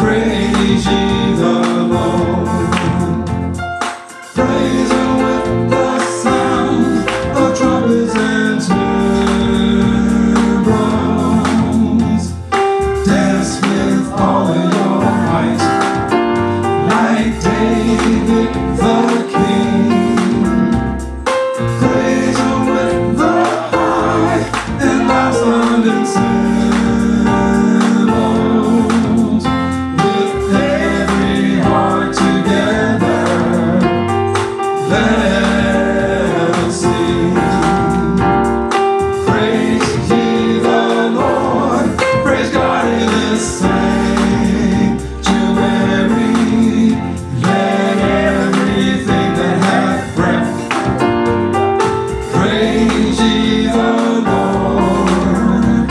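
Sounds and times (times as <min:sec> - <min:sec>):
voices singing over a band: 0:00.0 - 0:55.9.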